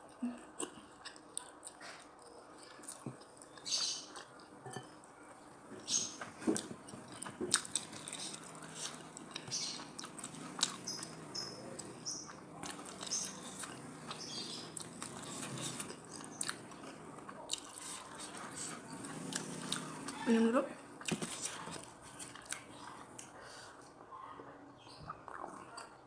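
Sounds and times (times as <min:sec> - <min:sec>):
person chewing food: 0:00.1 - 0:24.0.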